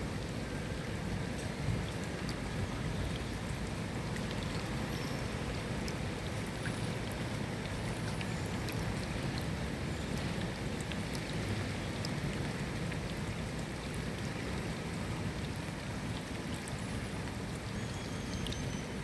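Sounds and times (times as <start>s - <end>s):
steady rain hiss: 0.0s - 17.9s
raindrops ticking: 1.2s - 17.6s.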